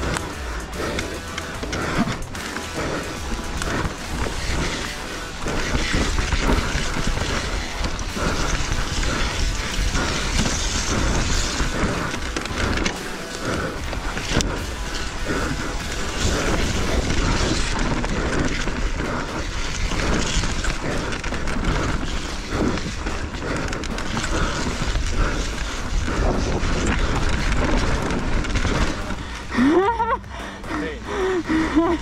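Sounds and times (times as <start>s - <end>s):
bike rattling and knocking: 0.0s - 32.0s
tyres rumbling: 0.0s - 32.0s
wind buffeting microphone: 2.8s - 29.6s.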